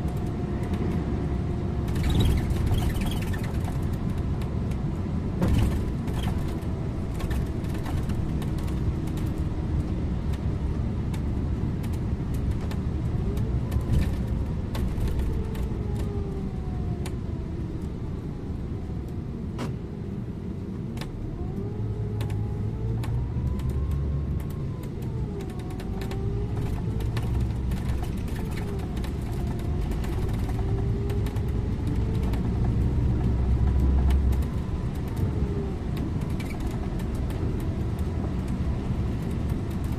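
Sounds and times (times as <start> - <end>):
bus engine and road rumble: 0.0 - 39.9
drivetrain whine: 0.0 - 39.9.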